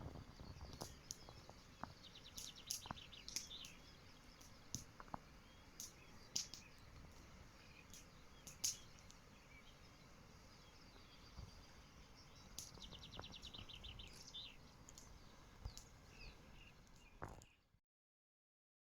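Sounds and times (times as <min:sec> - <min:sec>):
outdoor hiss: 0:00.0 - 0:17.6
songbird chirps: 0:00.0 - 0:17.8.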